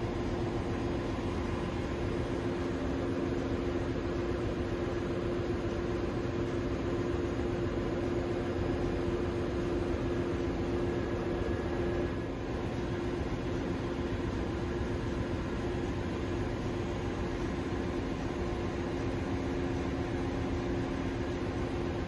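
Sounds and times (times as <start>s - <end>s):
engine room machinery hum: 0.0s - 22.0s.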